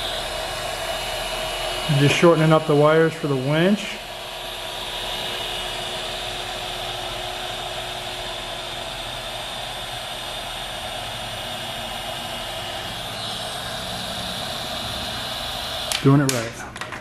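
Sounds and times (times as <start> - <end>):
heat gun fan blowing: 0.0 - 17.0.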